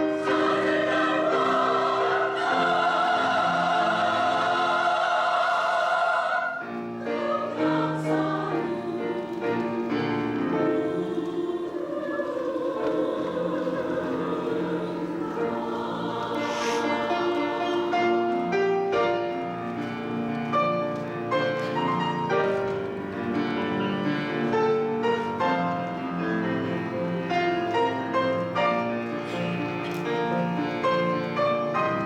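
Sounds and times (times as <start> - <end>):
piano accompaniment: 0.0 - 32.0
women's choir singing: 0.0 - 32.0.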